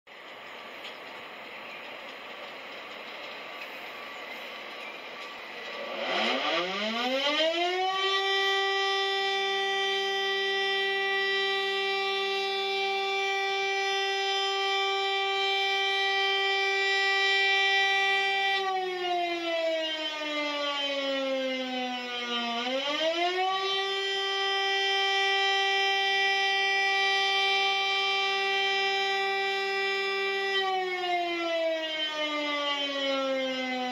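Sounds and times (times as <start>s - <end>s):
civil defense siren wailing: 3.2s - 33.9s.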